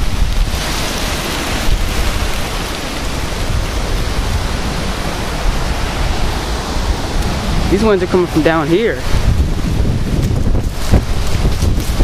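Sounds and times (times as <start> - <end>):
strong gusty wind buffeting microphone: 0.0 - 12.0.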